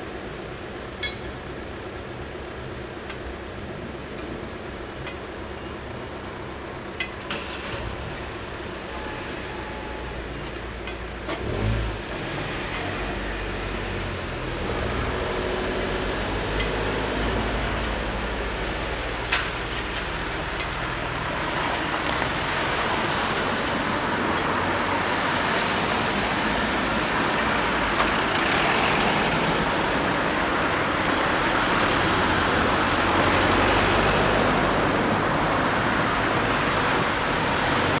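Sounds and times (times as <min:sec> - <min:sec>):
vehicles driving past: 0:00.0 - 0:38.0.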